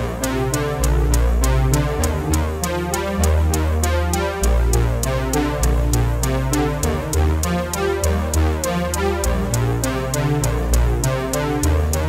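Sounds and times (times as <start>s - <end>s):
crisp high ticks: 0.0s - 12.0s
deep synthesizer bass line: 0.0s - 12.0s
electronic music: 0.0s - 12.0s.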